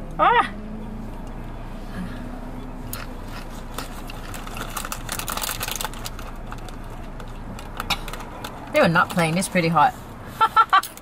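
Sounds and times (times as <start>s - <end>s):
low hum inside car: 0.0s - 10.8s.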